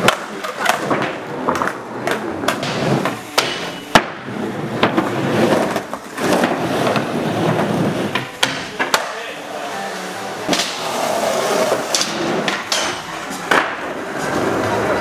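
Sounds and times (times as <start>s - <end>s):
skateboard clacks and knocks: 0.0s - 9.2s, 11.7s - 15.0s
skateboard wheels rolling: 0.0s - 15.0s.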